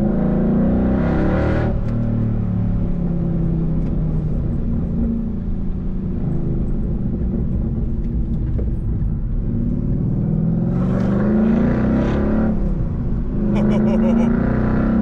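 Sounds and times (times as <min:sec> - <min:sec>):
car exhaust accelerating: 0:00.0 - 0:15.0.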